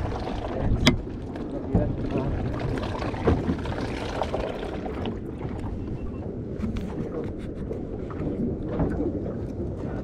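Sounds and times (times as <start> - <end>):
water washing against boat hull: 0.0 - 10.0
wind buffeting microphone: 0.0 - 10.0.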